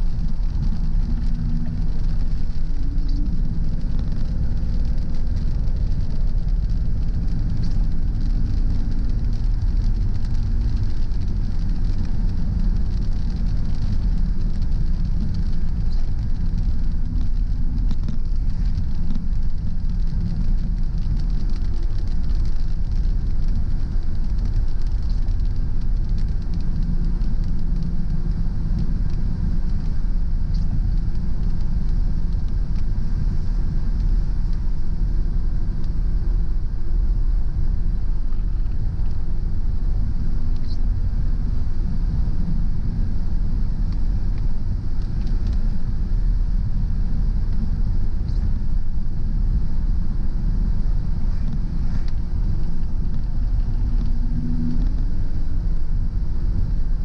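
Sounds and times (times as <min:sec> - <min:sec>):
car road and engine rumble: 0:00.0 - 0:57.0
tyres hissing on wet road: 0:00.0 - 0:57.0.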